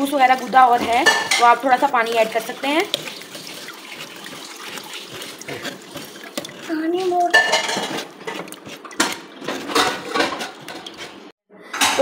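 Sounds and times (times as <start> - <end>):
metal spoon scraping mesh strainer: 0.1 - 11.3.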